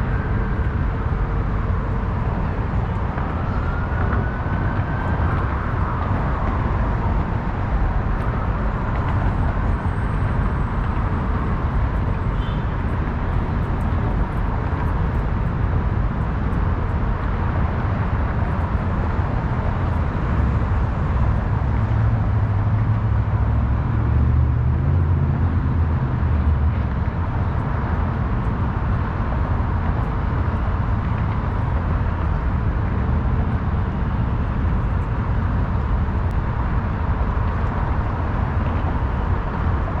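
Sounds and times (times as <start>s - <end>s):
city traffic rumble: 0.0s - 40.0s.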